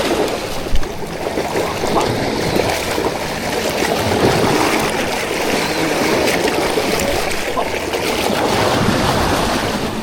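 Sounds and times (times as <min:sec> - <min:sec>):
water splashing and rushing: 0:00.0 - 0:10.0.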